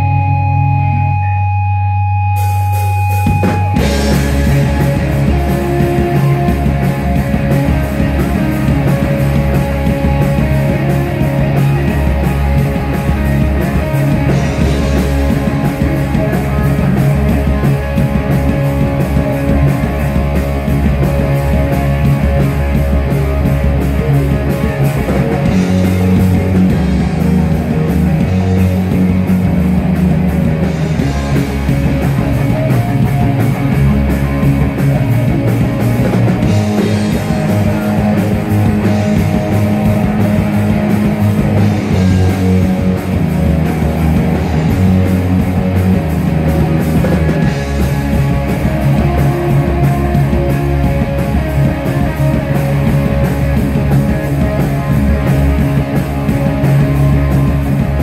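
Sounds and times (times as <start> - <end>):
live rock band: 0.0 - 58.0.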